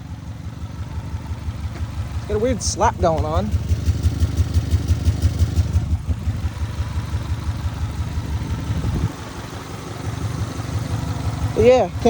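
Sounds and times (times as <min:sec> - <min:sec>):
car engine idling with pulsing beat: 0:00.0 - 0:12.0.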